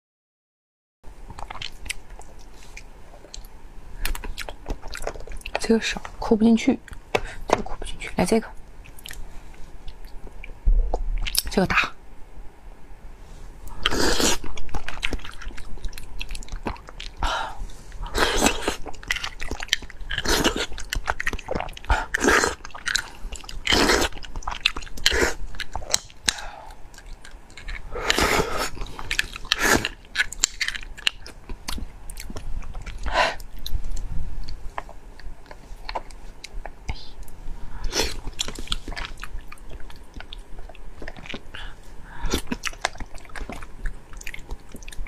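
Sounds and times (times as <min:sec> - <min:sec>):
wet chewing and sucking: 0:01.3 - 0:05.6, 0:08.8 - 0:11.5, 0:13.6 - 0:45.0.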